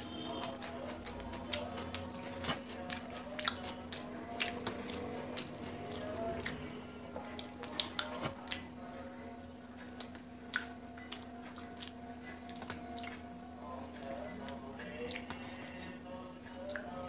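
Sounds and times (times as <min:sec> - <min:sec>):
light chewing: 0:00.0 - 0:17.0.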